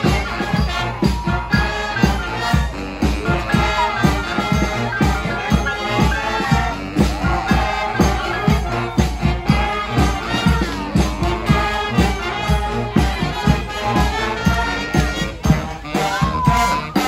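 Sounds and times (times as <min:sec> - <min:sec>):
brass band horns playing melody: 0:00.0 - 0:17.0
driving drum beat: 0:00.0 - 0:17.0.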